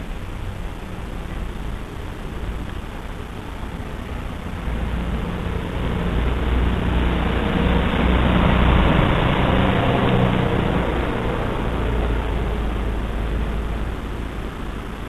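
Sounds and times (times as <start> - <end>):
camp stove flame rushing: 0.0 - 15.0.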